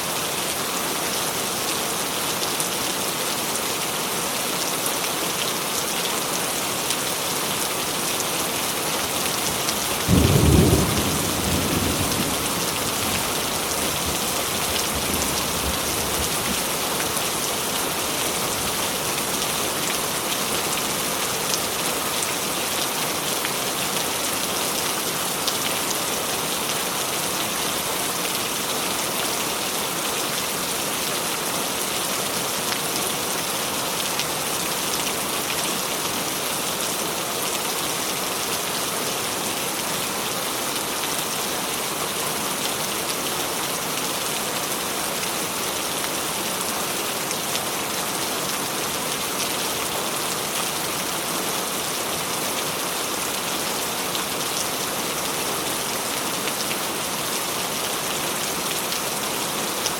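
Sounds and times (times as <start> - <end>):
rain pattering on a surface: 0.1 - 59.9.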